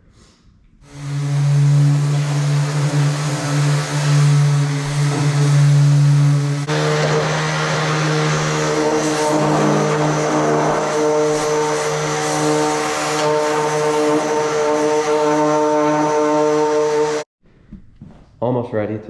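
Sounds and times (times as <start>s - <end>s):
machine droning: 0.8s - 17.3s.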